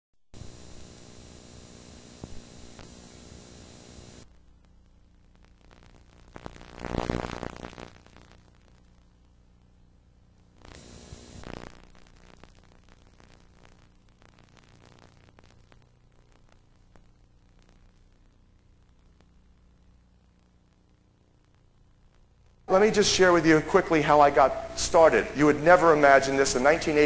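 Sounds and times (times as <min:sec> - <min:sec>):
electrical buzz and hiss: 0:00.4 - 0:27.0.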